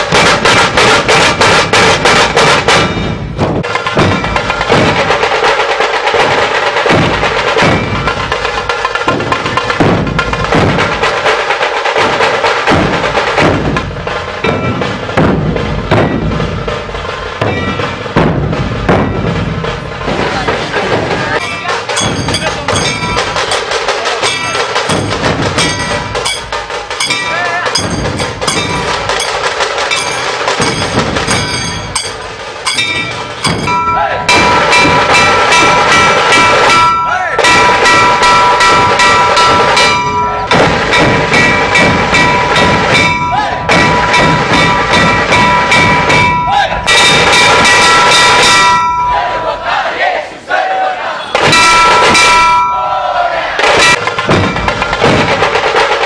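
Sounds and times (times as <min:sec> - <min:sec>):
snare drums beating a fast rhythm: 0:00.0 - 0:49.3, 0:51.3 - 0:52.7, 0:53.4 - 0:56.0
dhol barrel drums: 0:00.0 - 0:49.4, 0:51.2 - 0:56.0.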